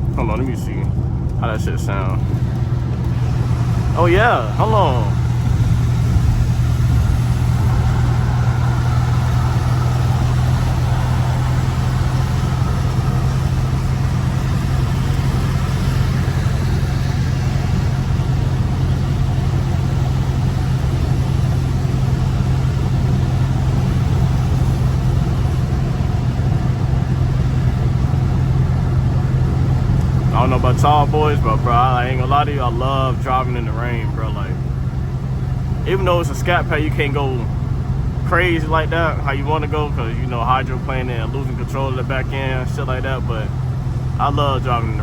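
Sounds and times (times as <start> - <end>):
car engine low drone: 0.0 - 45.0.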